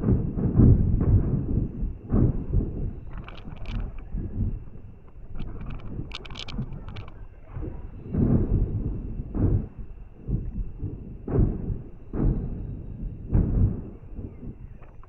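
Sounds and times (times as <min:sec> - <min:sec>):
firework booms: 0:00.0 - 0:15.0
firework crackles: 0:00.0 - 0:15.0.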